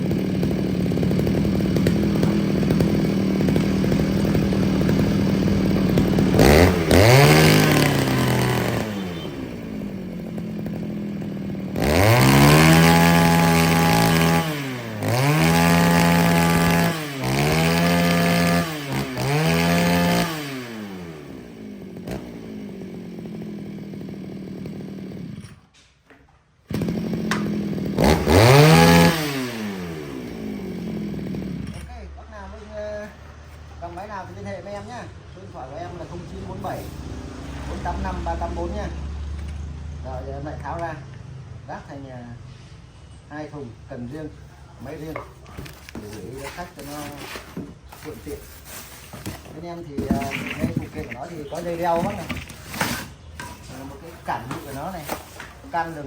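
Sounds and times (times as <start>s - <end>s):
brush cutter engine revving: 0.0s - 25.6s, 26.7s - 31.9s, 36.2s - 39.6s, 44.2s - 56.0s.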